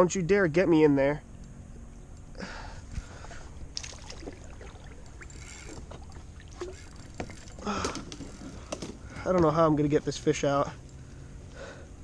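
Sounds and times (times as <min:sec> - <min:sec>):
water and hull noise: 0:01.3 - 0:11.2.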